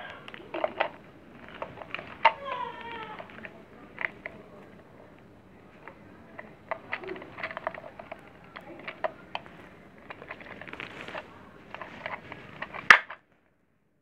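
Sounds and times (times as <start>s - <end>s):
plastic parts clicking and tapping: 0.0s - 13.2s.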